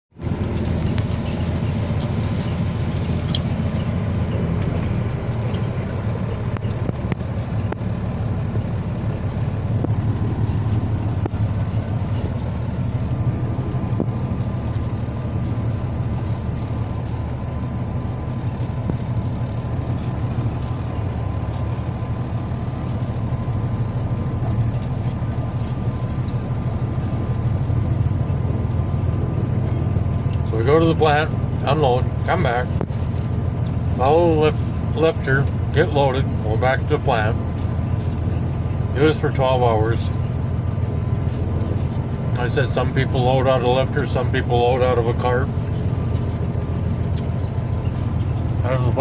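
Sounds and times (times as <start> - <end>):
diesel engine low rumble: 0.0 - 49.0
road noise: 0.0 - 49.0.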